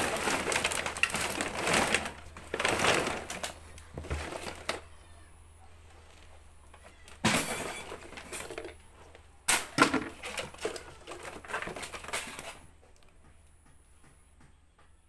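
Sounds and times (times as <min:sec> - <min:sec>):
plastic rustling and clattering: 0:00.0 - 0:13.2.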